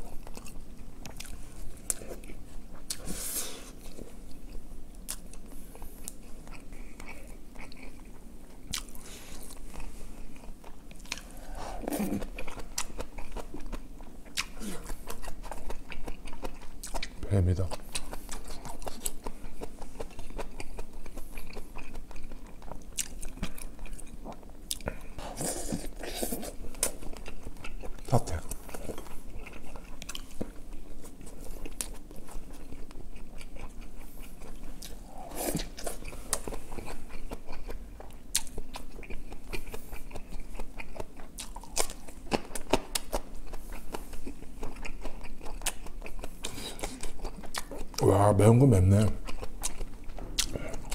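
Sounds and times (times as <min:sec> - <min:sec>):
person chewing with wet crunching: 0:00.0 - 0:50.9.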